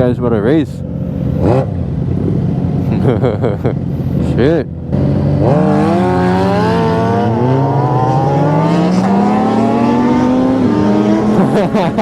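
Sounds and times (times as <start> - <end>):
motorcycle engine accelerating: 1.1 - 3.6, 4.8 - 12.0.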